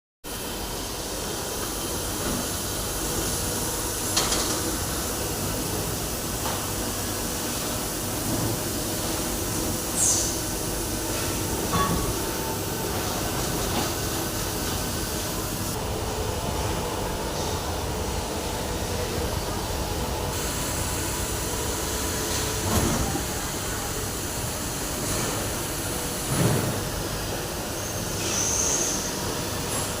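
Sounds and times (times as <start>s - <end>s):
machinery hiss: 0.3s - 15.9s, 20.3s - 30.0s
low machinery hum: 0.5s - 28.0s.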